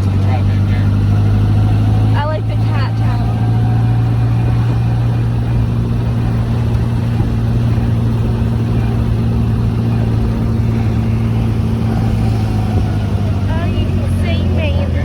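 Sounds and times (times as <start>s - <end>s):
car engine drone: 0.0s - 15.0s
road and wind noise: 0.0s - 15.0s.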